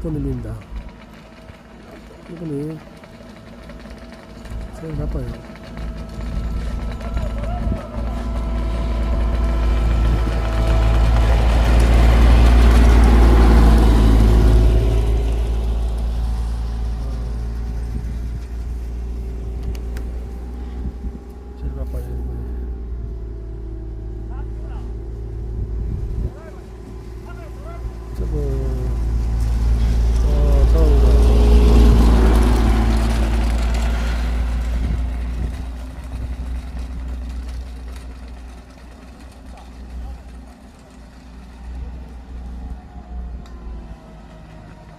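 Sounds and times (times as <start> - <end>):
diesel engine of paving machine: 0.0 - 44.9.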